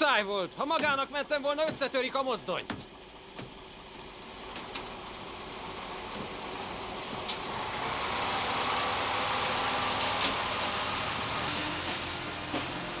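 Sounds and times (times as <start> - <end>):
diesel locomotive running: 0.0 - 13.0.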